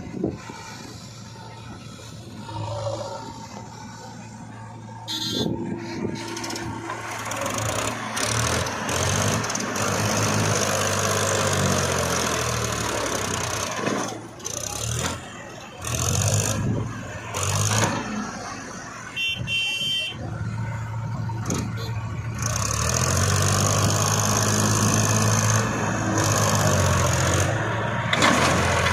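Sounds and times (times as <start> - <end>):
diesel engine revving under load: 0.0 - 19.2, 20.1 - 28.9.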